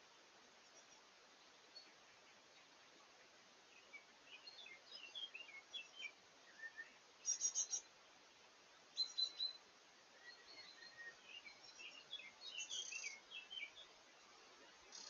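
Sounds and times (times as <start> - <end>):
songbirds warbling: 0.0 - 15.0
steady hiss: 0.0 - 15.0.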